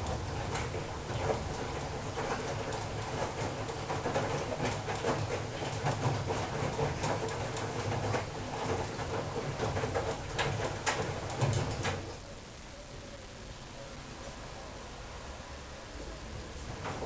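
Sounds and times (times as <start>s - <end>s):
washing machine drum humming: 0.0s - 17.0s.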